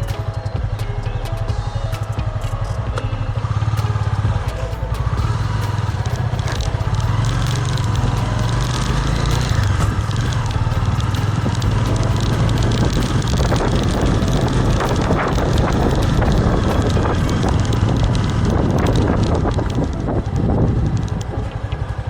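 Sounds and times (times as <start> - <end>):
small vehicle engine running: 0.0 - 22.0
wind noise on microphone: 0.0 - 22.0.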